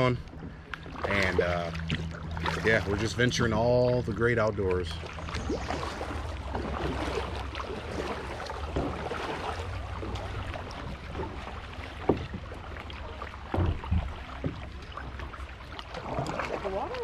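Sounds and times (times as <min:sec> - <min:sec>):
paddle splashing water: 0:00.0 - 0:17.0.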